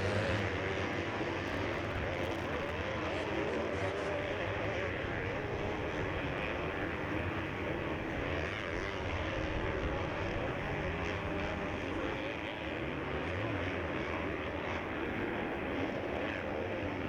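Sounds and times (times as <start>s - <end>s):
motocross bike engines racing: 0.0s - 17.0s.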